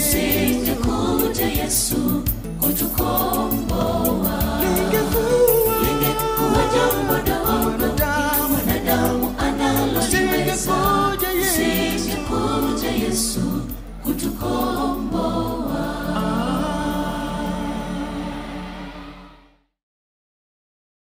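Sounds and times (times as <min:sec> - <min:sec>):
steady beat: 0:00.0 - 0:18.7
gospel choir singing in harmony: 0:00.0 - 0:19.6.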